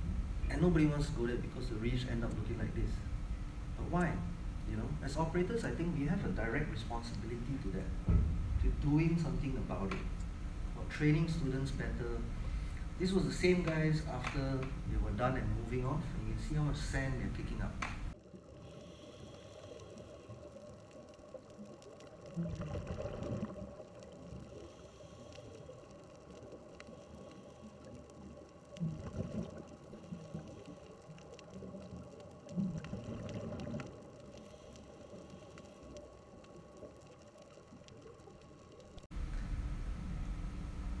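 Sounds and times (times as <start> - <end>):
muffled underwater rumble: 0.0 - 41.0.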